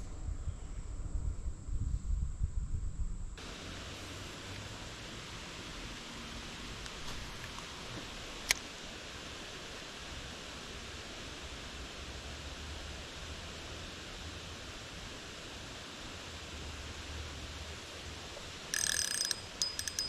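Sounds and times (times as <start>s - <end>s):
flowing creek water: 3.4s - 20.0s.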